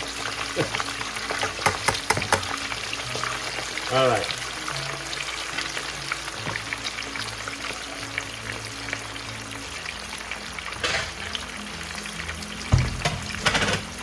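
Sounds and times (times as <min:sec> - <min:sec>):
chicken deep-frying in oil: 0:00.0 - 0:14.0
soft background music: 0:00.0 - 0:14.0.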